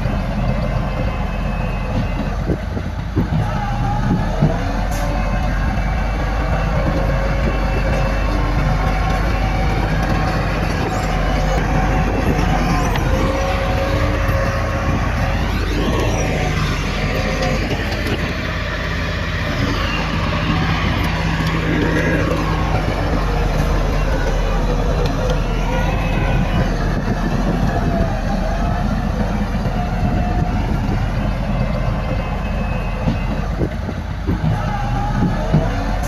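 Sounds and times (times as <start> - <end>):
heavy machinery engines running: 0.0 - 36.0.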